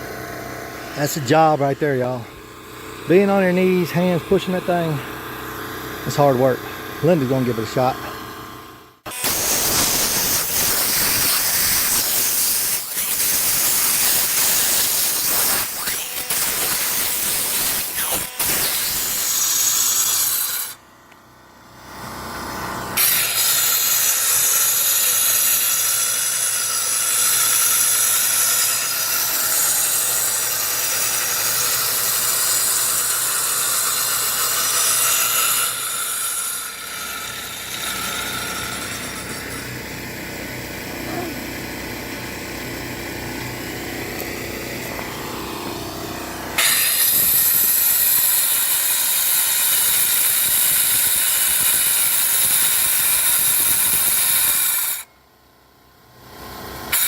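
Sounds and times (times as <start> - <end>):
power saw cutting concrete: 0.0 - 20.8, 21.7 - 55.1, 56.4 - 57.0.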